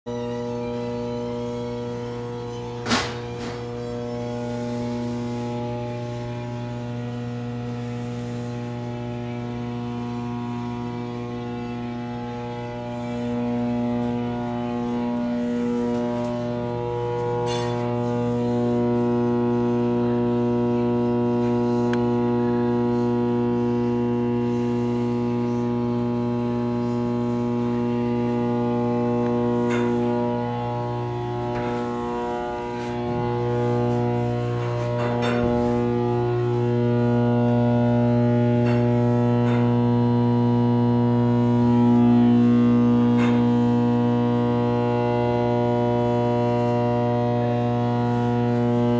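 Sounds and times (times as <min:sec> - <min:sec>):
electrical machinery humming: 0:00.1 - 0:48.9.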